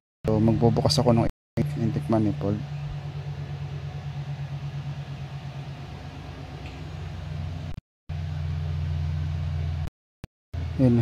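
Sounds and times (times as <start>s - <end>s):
car engine running: 0.3s - 9.9s, 10.6s - 11.0s.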